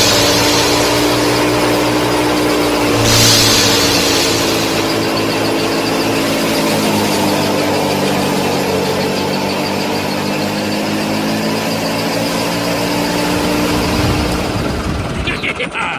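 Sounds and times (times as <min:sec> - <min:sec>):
small motors whining: 0:00.0 - 0:15.9.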